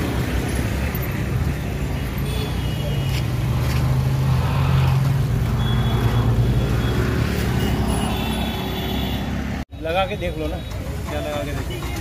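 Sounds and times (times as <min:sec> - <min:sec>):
street market noise: 0:00.0 - 0:12.0.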